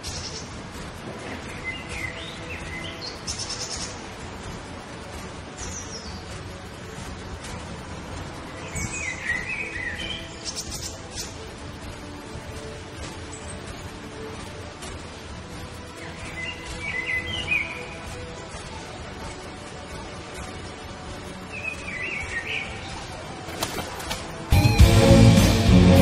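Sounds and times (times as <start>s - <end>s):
outdoor background noise: 0.0s - 26.0s
songbirds chirping: 0.0s - 26.0s.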